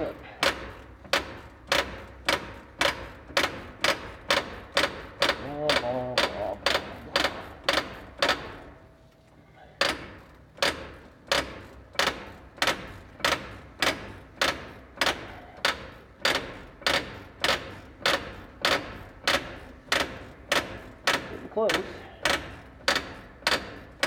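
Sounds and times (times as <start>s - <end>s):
ratchet popping: 0.0s - 8.8s, 9.8s - 24.0s.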